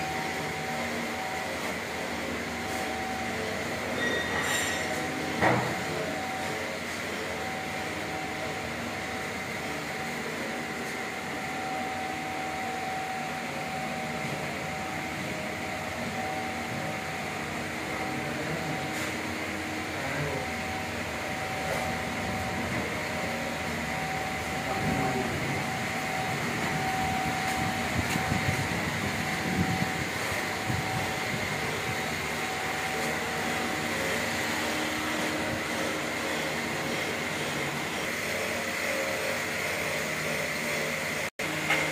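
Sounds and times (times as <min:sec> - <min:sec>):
roll forming machine humming: 0:00.0 - 0:41.9.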